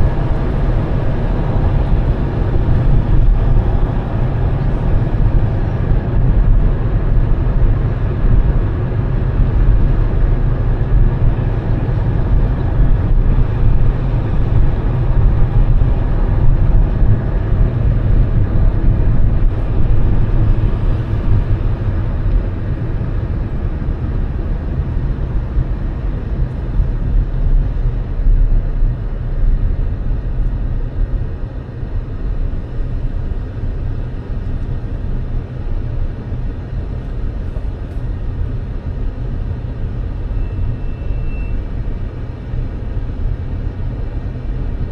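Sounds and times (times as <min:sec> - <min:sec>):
moving vehicle rumble: 0:00.0 - 0:44.9.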